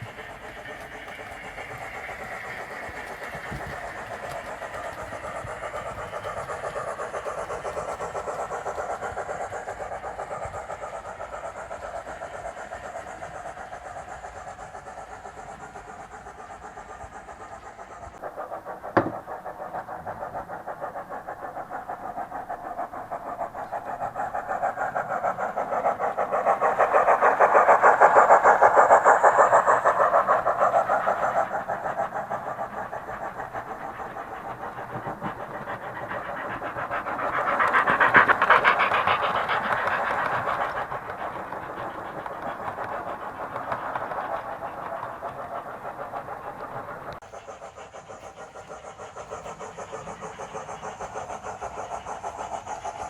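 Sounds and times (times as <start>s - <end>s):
model train steam chuffs: 0.0s - 53.0s.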